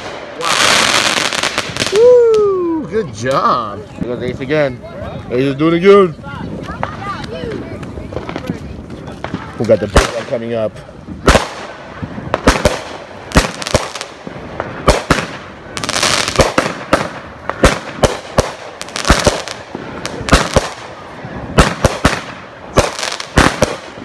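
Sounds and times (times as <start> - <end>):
fireworks bangs: 0.0 - 2.3, 5.3 - 24.0
fireworks hissing: 0.0 - 24.0.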